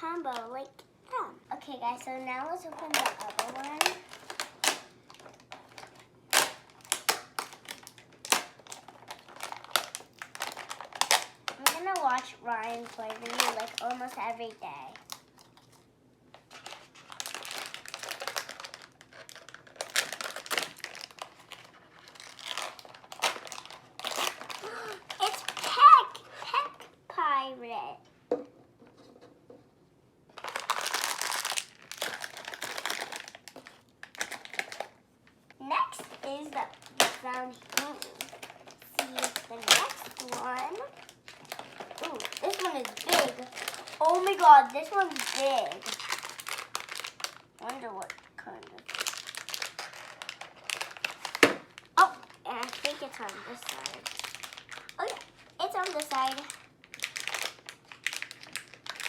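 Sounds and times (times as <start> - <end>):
plastic package crinkling: 0.0 - 0.8, 1.6 - 26.9, 30.3 - 59.0.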